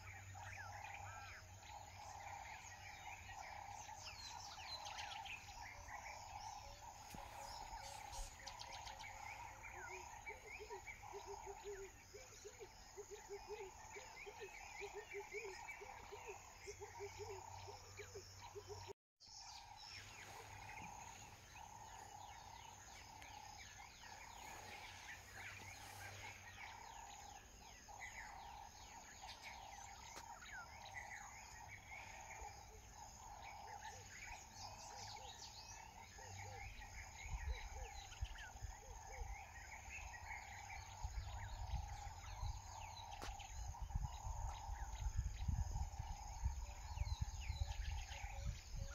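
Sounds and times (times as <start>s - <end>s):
insect drone: 0.0s - 48.9s.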